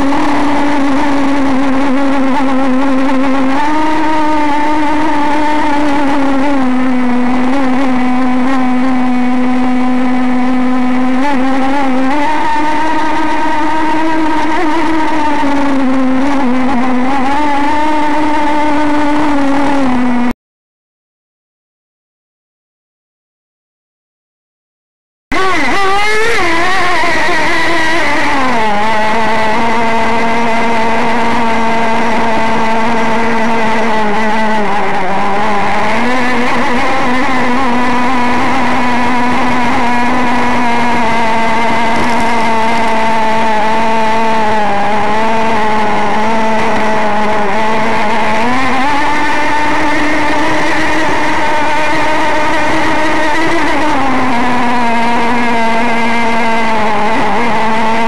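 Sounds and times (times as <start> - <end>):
model boat engine high-pitched drone: 0.0 - 20.3, 25.3 - 58.0.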